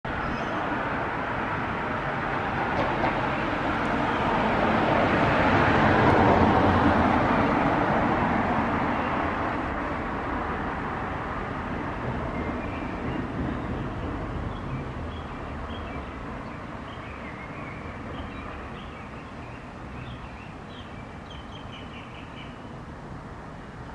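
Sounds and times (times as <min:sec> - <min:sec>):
passing vehicle rush: 0:00.1 - 0:21.3.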